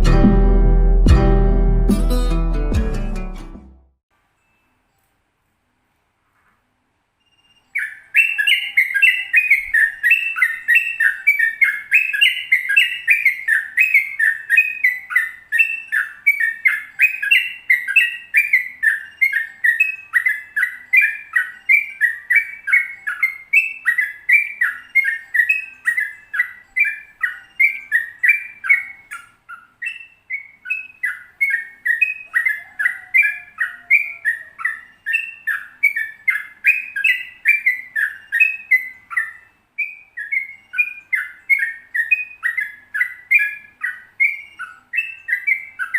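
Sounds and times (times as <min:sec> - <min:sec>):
bird singing fast warbled notes: 0:07.6 - 0:45.9.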